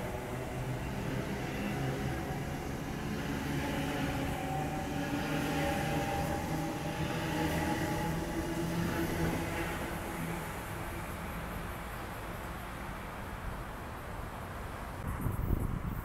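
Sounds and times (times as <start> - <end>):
wheels rumbling on rail: 0.0 - 16.0.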